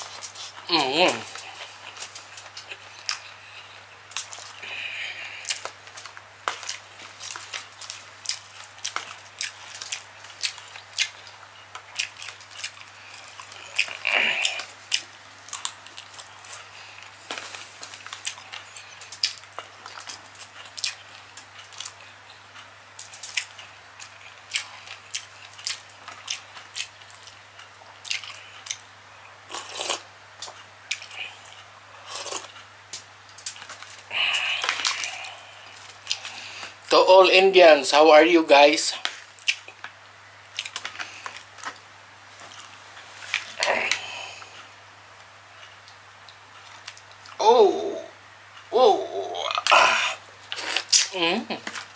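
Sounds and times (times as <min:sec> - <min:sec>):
mouth chewing and smacking: 0:00.0 - 0:36.9, 0:39.0 - 0:44.7, 0:45.6 - 0:47.4
faint low hum: 0:00.0 - 0:51.9.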